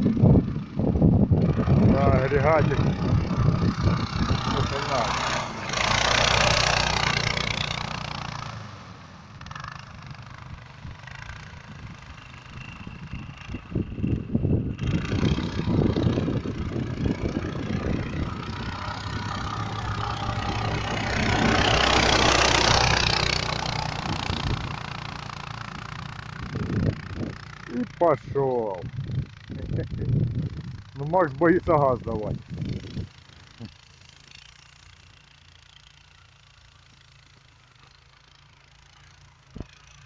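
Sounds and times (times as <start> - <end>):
small engine surging and idling: 0.0 - 40.0.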